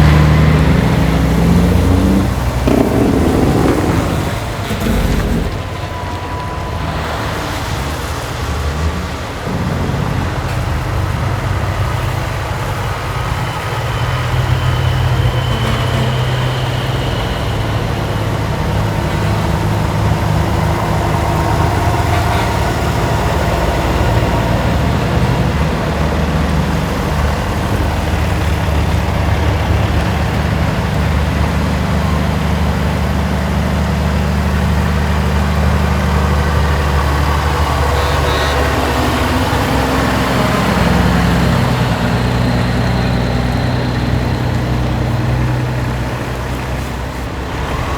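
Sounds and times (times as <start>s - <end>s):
large engine droning: 0.0s - 47.9s.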